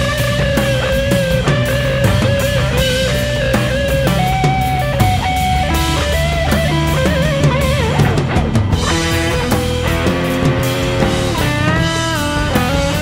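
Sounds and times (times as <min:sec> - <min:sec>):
lead guitar melody: 0:00.0 - 0:13.0
steady rock beat: 0:00.0 - 0:13.0.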